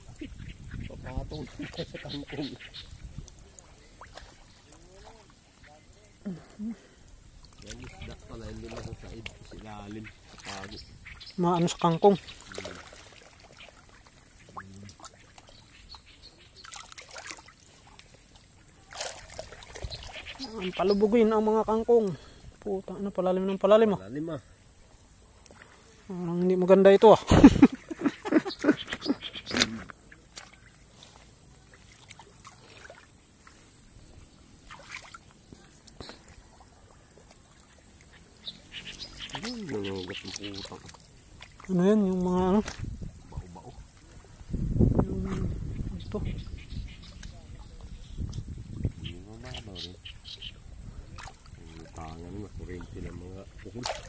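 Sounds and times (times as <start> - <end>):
water sloshing around legs: 0.0 - 22.0, 24.8 - 54.0
leaves rustling: 0.0 - 54.0.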